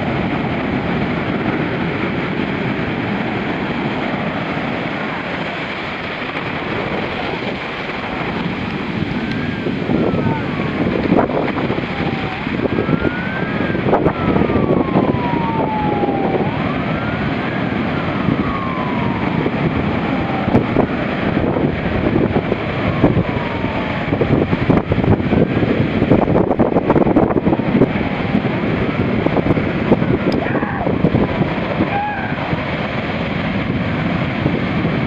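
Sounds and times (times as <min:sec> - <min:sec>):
siren wailing: 0:00.0 - 0:35.0
surf breaking on sand: 0:00.0 - 0:35.0.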